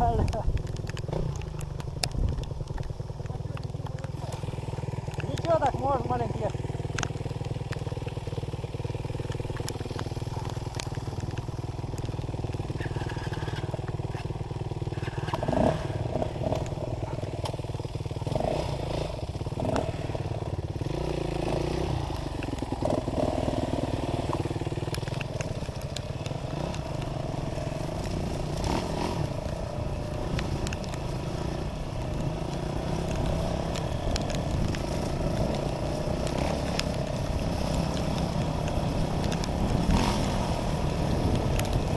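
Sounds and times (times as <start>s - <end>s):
dirt bike engine running: 0.0s - 41.9s.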